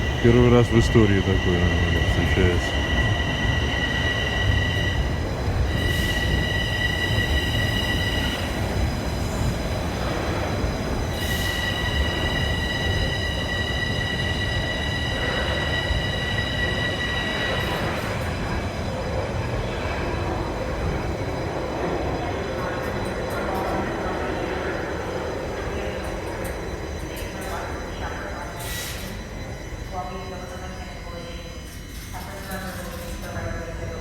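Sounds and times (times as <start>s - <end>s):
subway train rumbling: 0.0s - 34.0s.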